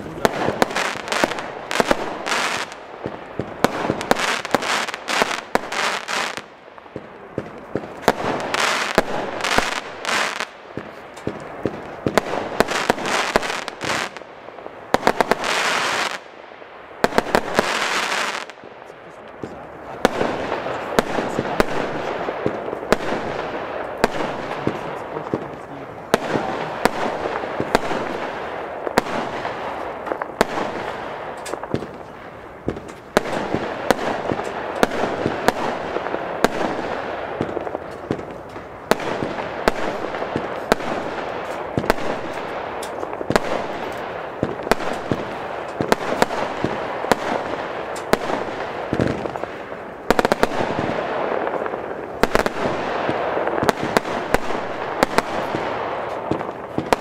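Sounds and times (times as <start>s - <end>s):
crackling firework stars: 0.0s - 57.0s
firework bangs: 0.0s - 57.0s.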